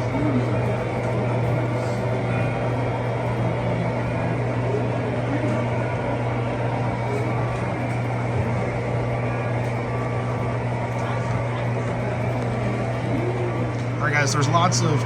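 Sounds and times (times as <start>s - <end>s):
constant low hum: 0.0s - 15.0s
model trains rolling rumble: 0.0s - 15.0s.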